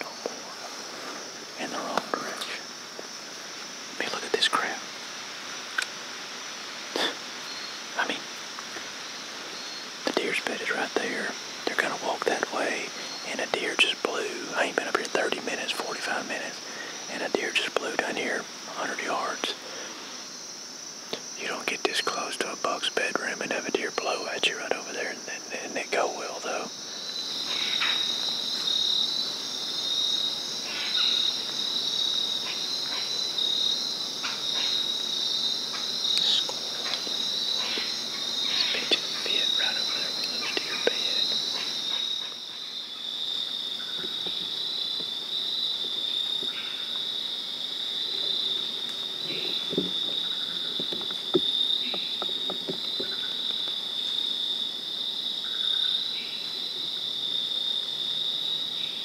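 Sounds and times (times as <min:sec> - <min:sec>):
crickets and night insects chirping: 0:00.0 - 0:59.0.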